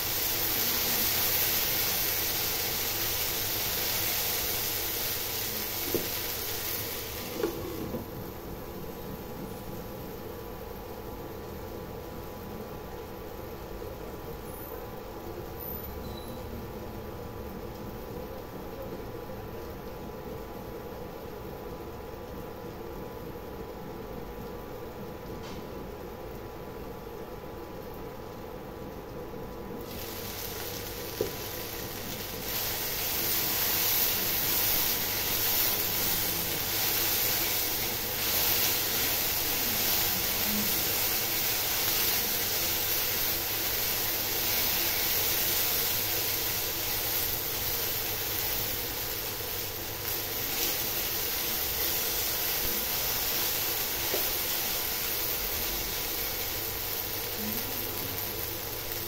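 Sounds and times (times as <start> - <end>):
okra sizzling in oil: 0.0 - 18.8, 29.7 - 59.0.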